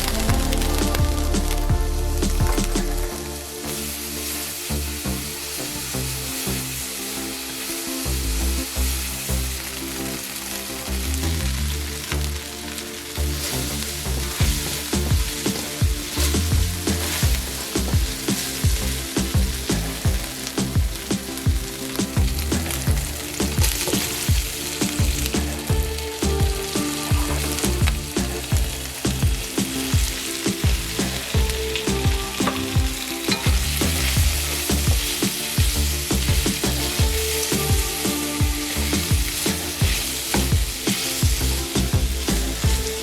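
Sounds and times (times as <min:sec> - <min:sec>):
background music with steady beat: 0:00.0 - 0:43.0
food sizzling in hot oil: 0:00.0 - 0:43.0.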